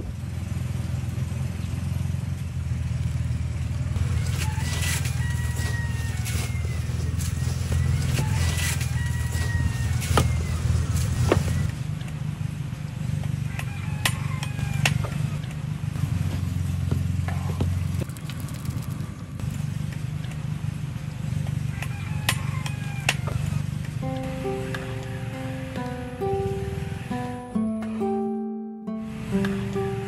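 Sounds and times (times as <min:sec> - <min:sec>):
low engine drone: 0:00.0 - 0:13.1, 0:14.6 - 0:21.6, 0:23.7 - 0:30.0.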